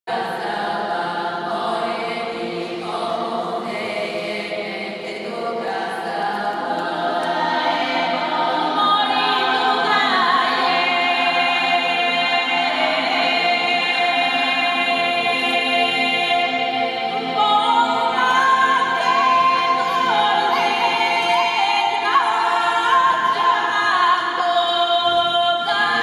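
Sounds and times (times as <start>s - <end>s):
women's choir singing unaccompanied: 0.1s - 26.0s.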